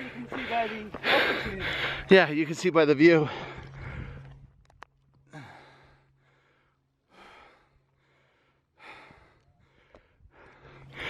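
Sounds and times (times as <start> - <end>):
person breathing hard: 0.0 - 2.1, 3.2 - 4.6, 5.3 - 11.0.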